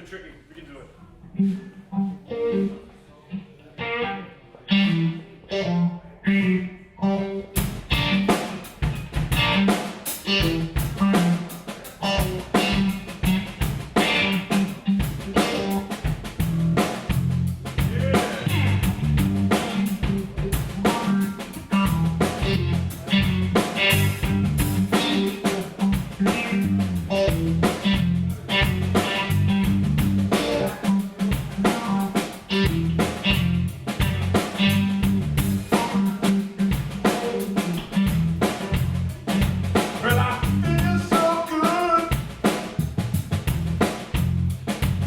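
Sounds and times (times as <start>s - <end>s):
guitar riff: 1.2s - 42.3s
band playing groove: 1.3s - 3.0s, 3.8s - 45.0s.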